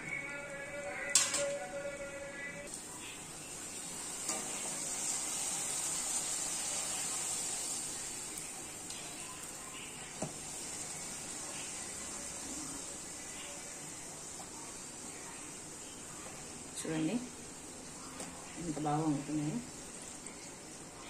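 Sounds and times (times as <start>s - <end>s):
dough sizzling in hot oil: 2.6s - 21.0s.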